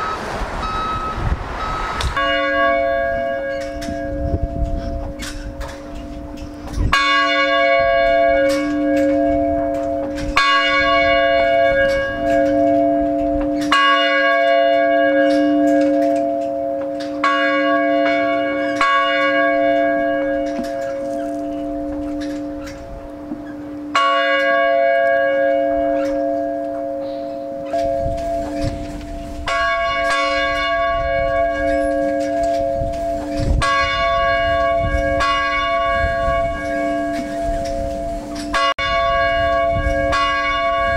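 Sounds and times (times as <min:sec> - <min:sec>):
large bell ringing: 0:00.0 - 0:40.9.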